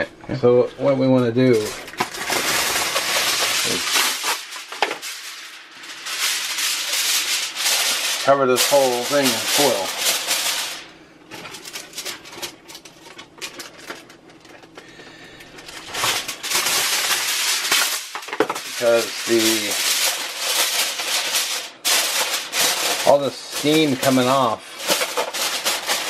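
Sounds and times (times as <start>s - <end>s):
aluminum foil crinkling: 1.4s - 26.0s.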